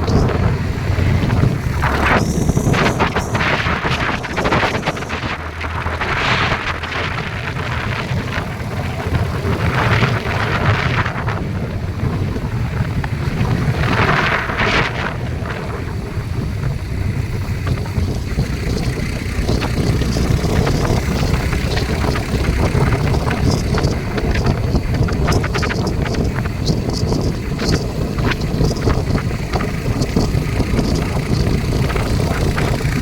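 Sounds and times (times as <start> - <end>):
vehicle rumble: 0.0 - 33.0
wind buffeting microphone: 0.0 - 33.0.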